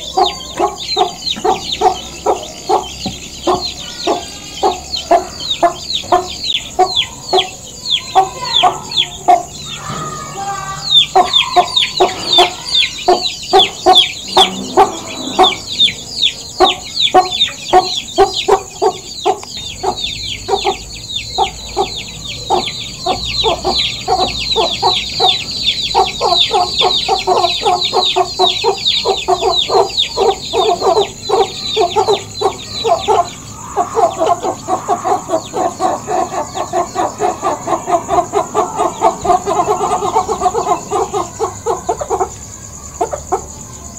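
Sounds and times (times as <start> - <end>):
chickens clucking rapidly: 0.0 - 43.9.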